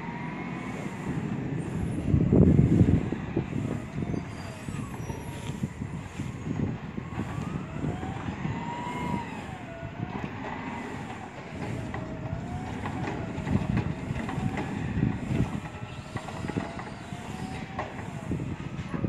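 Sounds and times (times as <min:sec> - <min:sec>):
diesel engine revving: 0:00.0 - 0:19.0
hydraulic whine: 0:00.0 - 0:19.0.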